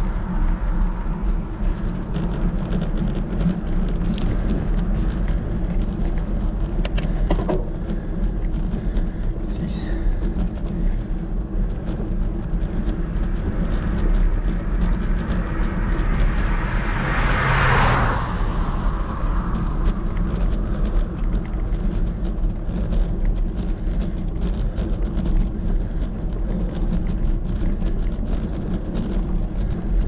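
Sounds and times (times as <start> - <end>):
car passing: 0.0 - 9.3, 10.3 - 30.0
steady low rumble: 0.0 - 30.0.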